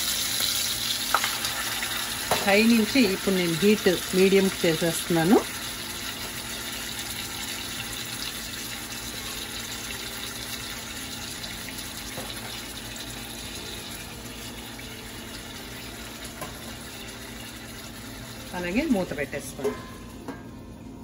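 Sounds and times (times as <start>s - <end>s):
chicken sizzling in oil: 0.0s - 20.2s.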